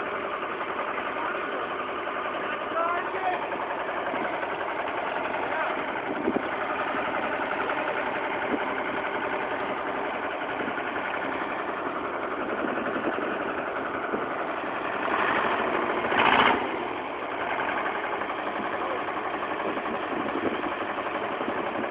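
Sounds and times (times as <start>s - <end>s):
tractor engine idling: 0.0s - 21.9s
tractor engine revving: 0.0s - 21.9s.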